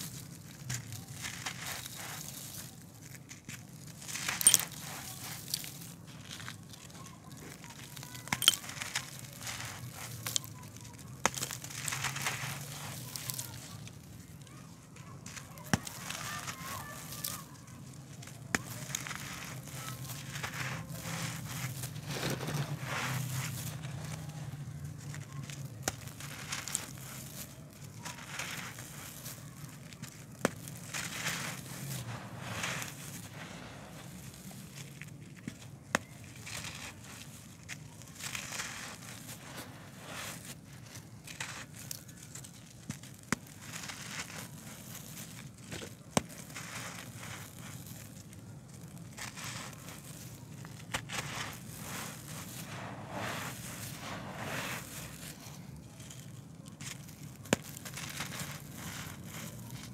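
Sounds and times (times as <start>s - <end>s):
grit sifting through fingers: 0.0s - 59.9s
gritty dirt crunching: 0.0s - 59.9s
hands crumbling dry earth: 0.0s - 59.9s.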